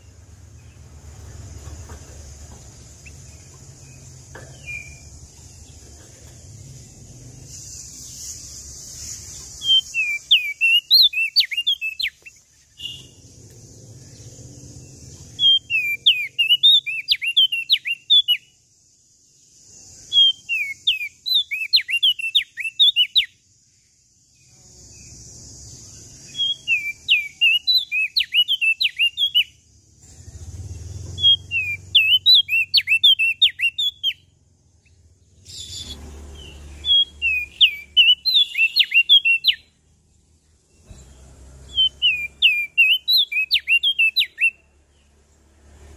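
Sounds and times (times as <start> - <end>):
bird singing sharp phrases: 0.0 - 45.9.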